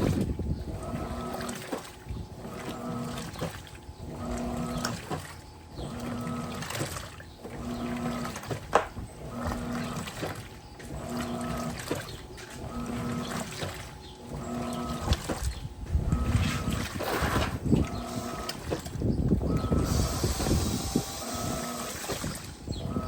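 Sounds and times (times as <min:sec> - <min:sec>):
washing machine motor humming: 0:00.0 - 0:23.0
water and clothes swishing: 0:00.0 - 0:23.0.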